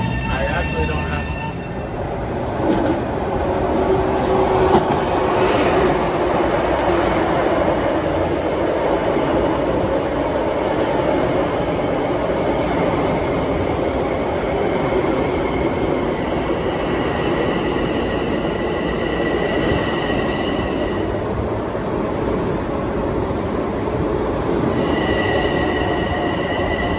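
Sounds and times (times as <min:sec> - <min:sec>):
train rumbling on rails: 0:00.0 - 0:26.9.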